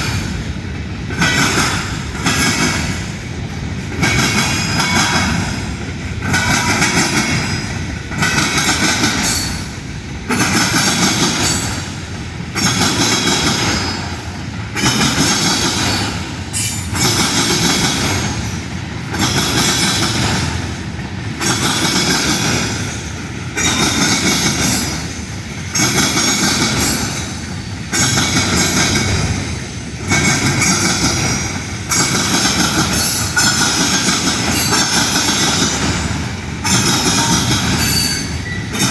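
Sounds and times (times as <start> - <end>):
train wheels clattering: 0.0 - 38.9.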